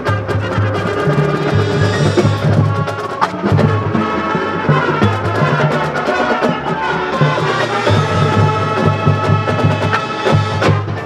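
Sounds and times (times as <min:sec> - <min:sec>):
mallet percussion: 0:00.0 - 0:11.0
marching band playing: 0:00.0 - 0:11.0.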